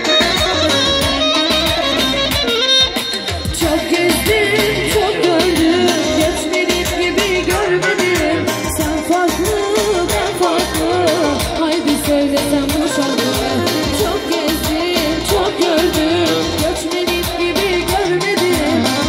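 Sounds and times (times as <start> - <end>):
dance music with drum beat: 0.0 - 19.0.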